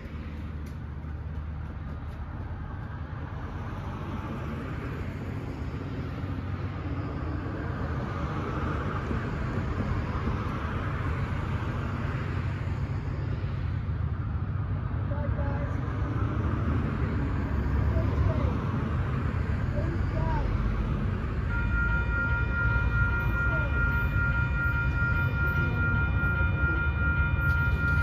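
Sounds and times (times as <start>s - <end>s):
distant vehicle rumble: 0.0s - 28.0s.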